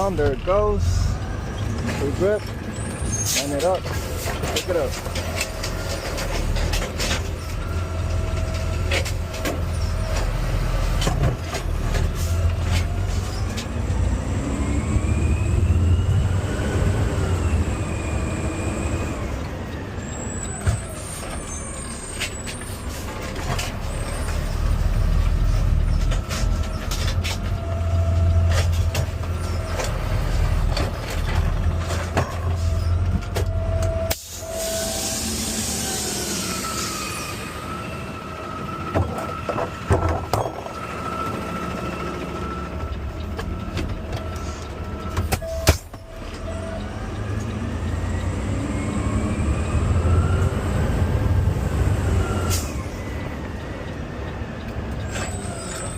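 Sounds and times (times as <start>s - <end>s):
garbage truck engine rumble: 0.0s - 55.9s.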